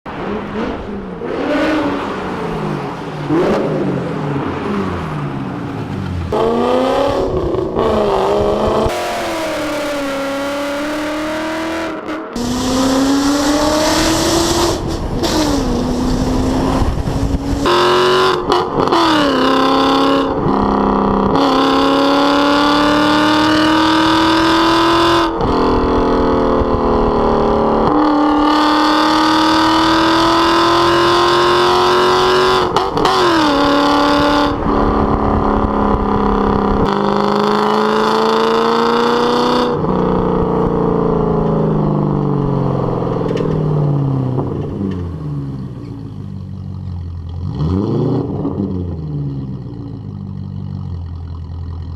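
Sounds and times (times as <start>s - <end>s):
car engine revving through gears: 0.1s - 46.0s, 47.2s - 49.9s.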